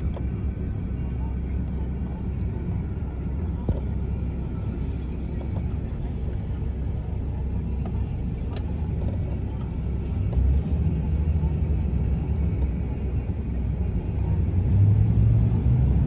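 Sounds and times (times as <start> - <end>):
car driving rumble: 0.0 - 16.0
road noise: 0.0 - 16.0.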